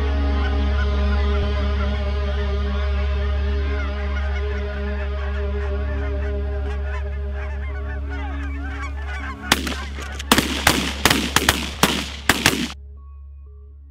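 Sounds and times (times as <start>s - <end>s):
geese honking: 0.0s - 12.8s
steady low hum: 0.0s - 13.9s.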